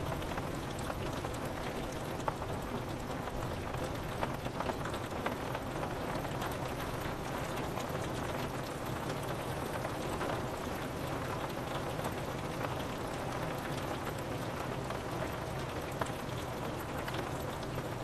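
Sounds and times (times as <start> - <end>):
raindrops ticking on glass: 0.0 - 18.0
steady rain falling: 0.0 - 18.0.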